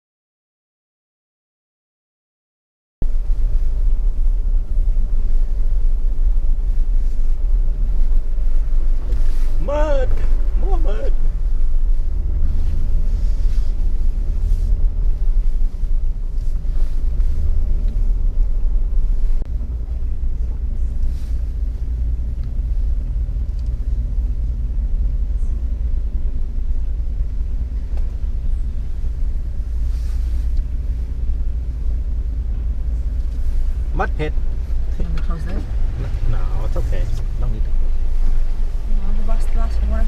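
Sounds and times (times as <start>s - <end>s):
off-road vehicle engine rumbling: 3.0s - 40.0s.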